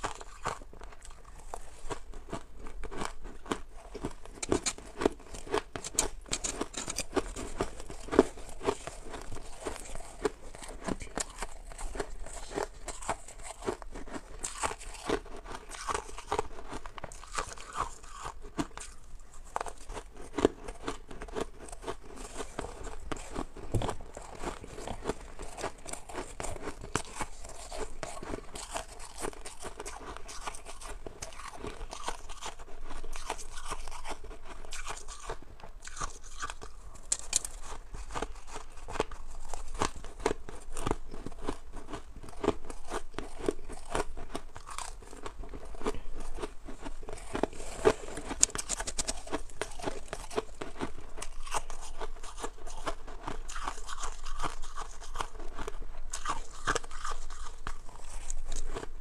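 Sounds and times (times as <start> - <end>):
person crunching ice: 0.0 - 58.9.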